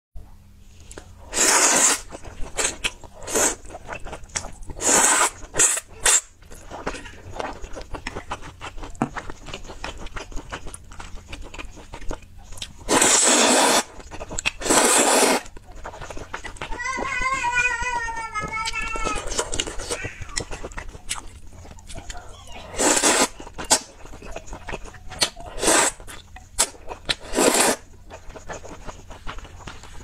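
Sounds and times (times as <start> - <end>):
wet chewing clicks: 0.8 - 16.8, 18.6 - 30.0
noodle slurping: 1.2 - 17.0, 19.1 - 30.0.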